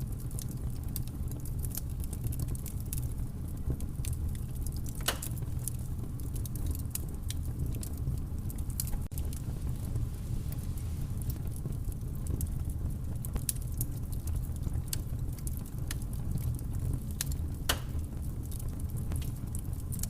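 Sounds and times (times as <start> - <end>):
campfire crackling and popping: 0.0 - 20.0
low steady rumble: 0.0 - 20.0.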